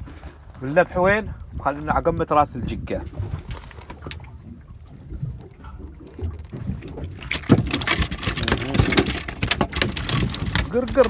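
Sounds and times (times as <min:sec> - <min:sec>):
boat engine low rumble: 0:00.0 - 0:11.0
water slapping against hull: 0:00.0 - 0:11.0.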